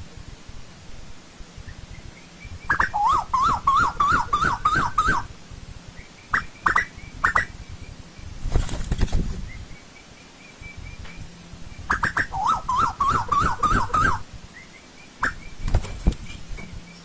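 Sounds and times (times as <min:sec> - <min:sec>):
bird calling: 0:01.5 - 0:08.5, 0:09.2 - 0:17.0.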